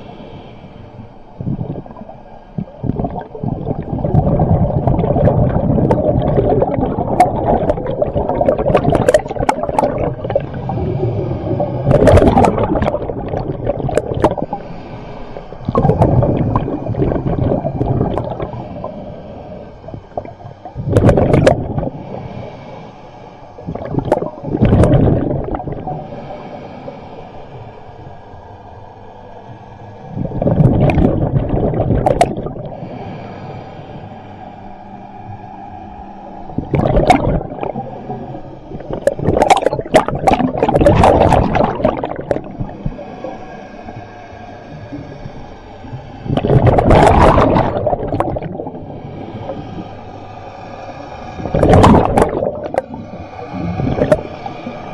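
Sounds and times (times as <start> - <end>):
underwater bubbles gurgling: 1.2 - 22.8, 23.4 - 26.9, 30.0 - 33.3, 36.4 - 54.9.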